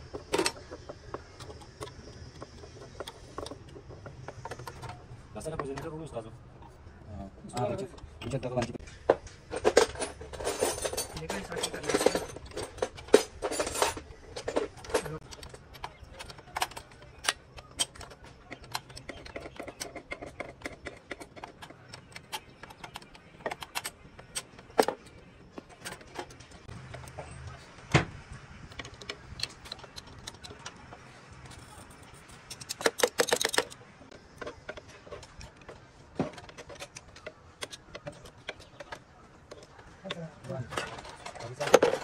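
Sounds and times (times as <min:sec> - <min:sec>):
metal tools clinking and knocking: 0:00.0 - 0:27.8, 0:28.6 - 0:42.0.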